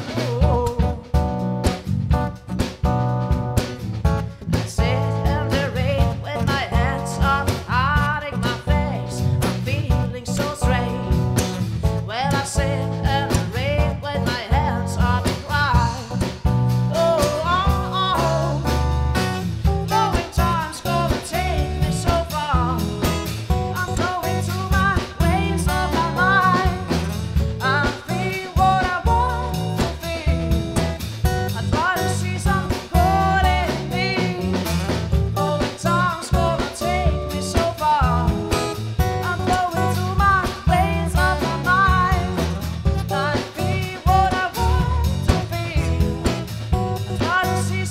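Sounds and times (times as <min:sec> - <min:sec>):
person singing: 0:00.0 - 0:01.4, 0:04.6 - 0:19.0, 0:19.6 - 0:47.9
low bass line: 0:00.0 - 0:47.9.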